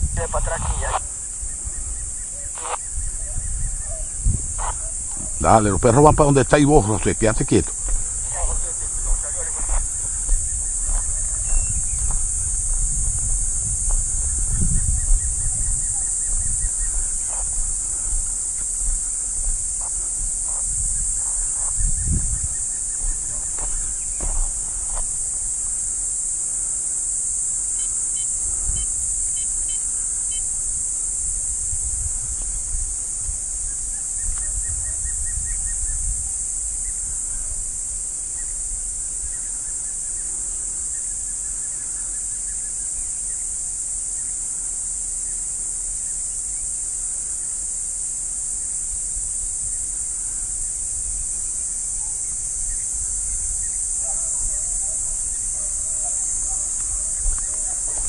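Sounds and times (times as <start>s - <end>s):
shrill insect chorus: 0.0s - 58.0s.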